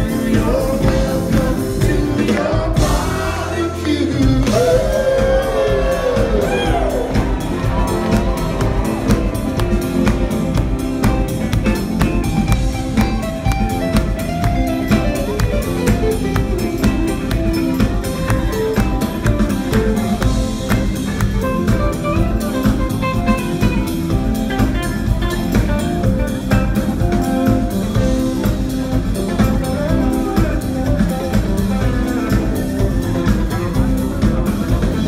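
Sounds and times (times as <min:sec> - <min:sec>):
drum kit beat: 0:00.0 - 0:35.0
electric guitars: 0:00.0 - 0:35.0.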